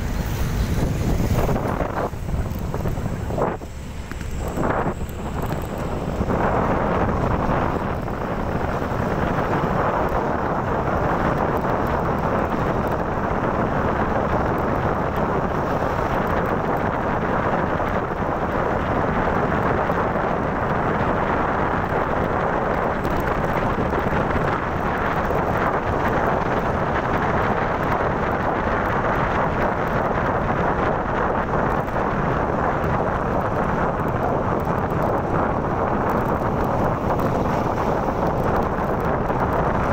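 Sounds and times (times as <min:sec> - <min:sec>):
motorcycle riding noise: 0:00.0 - 0:39.9
wind buffeting microphone: 0:00.0 - 0:39.9.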